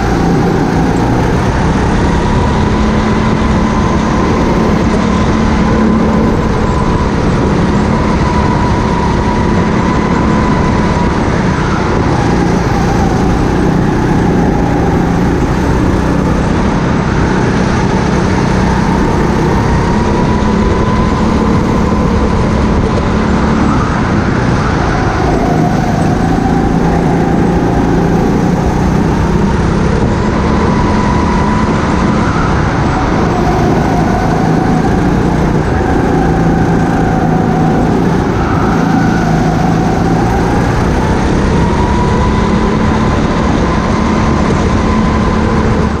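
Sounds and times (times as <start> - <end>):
go-kart engine revving: 0.0 - 46.0.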